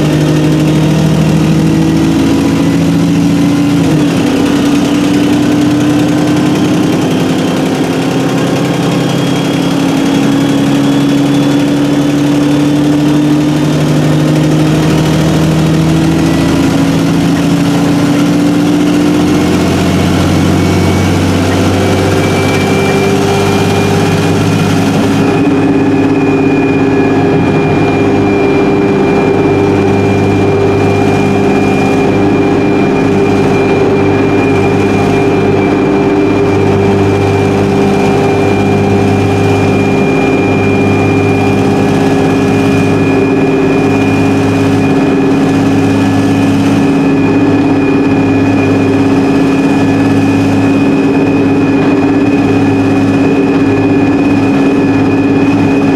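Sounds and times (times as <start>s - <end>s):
bus engine drone: 0.0s - 55.9s
high whine: 0.0s - 55.9s
pulsing low hum: 0.0s - 55.9s.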